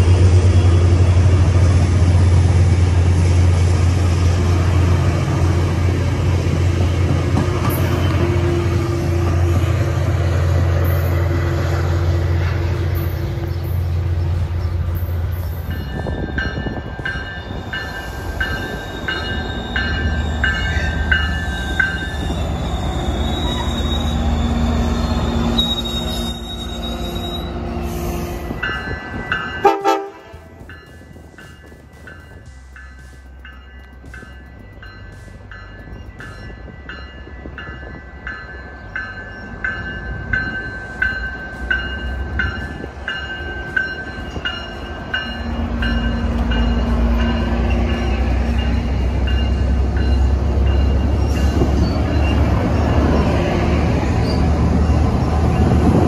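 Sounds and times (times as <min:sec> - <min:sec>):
diesel locomotive droning: 0:00.0 - 0:56.0
rumble of train coaches: 0:00.0 - 0:56.0
rail squeal: 0:06.8 - 0:56.0.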